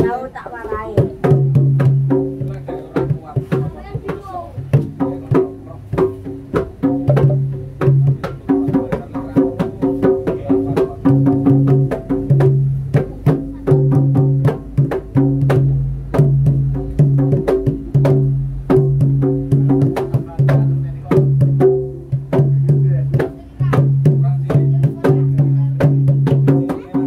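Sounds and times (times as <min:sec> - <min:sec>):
sharp drum strokes: 0:00.0 - 0:27.0.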